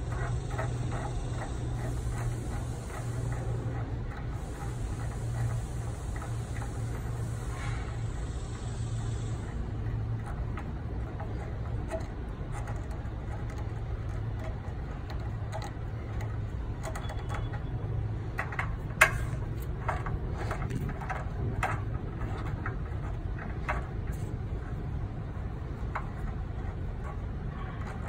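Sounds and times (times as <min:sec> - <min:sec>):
hand tools clicking and knocking: 0:00.0 - 0:07.5, 0:08.9 - 0:28.0
steady low hum: 0:00.0 - 0:28.0.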